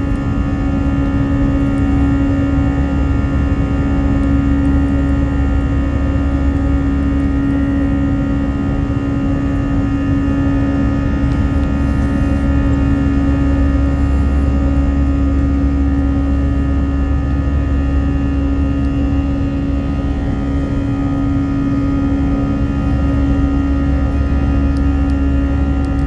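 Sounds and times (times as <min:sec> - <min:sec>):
jet engines heard from cabin: 0:00.0 - 0:26.0.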